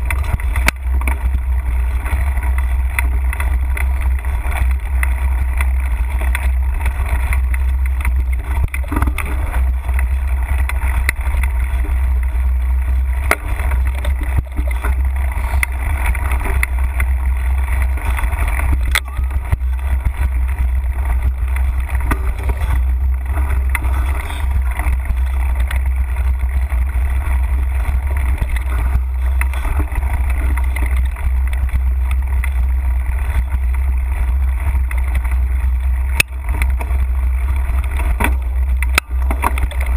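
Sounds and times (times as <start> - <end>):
bike clicks and rattles: 0.0 - 39.9
wind and vibration rumble: 0.0 - 39.9.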